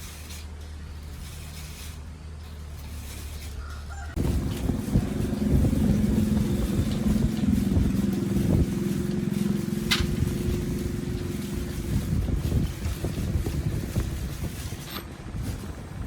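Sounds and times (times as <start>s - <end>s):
motorbike engine running: 0.5s - 16.0s.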